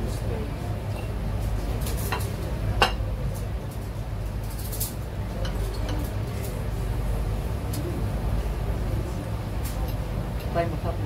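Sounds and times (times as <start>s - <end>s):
restaurant background hum: 0.0s - 11.0s.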